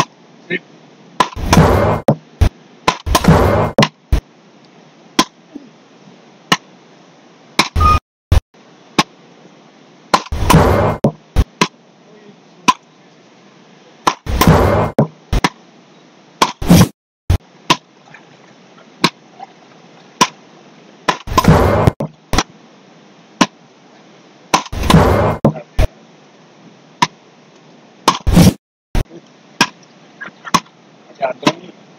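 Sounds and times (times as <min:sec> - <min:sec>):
noisy bursts: 0:00.0 - 0:18.0, 0:19.9 - 0:31.9.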